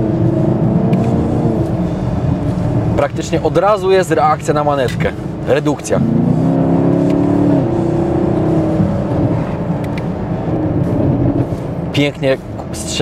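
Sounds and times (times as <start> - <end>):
car engine downshifting: 0.0 - 13.0.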